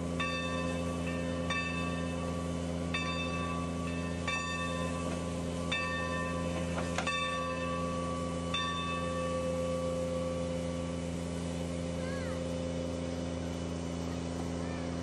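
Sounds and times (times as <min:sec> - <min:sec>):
locomotive bell ringing: 0:00.0 - 0:15.0
steady low hum: 0:00.0 - 0:15.0.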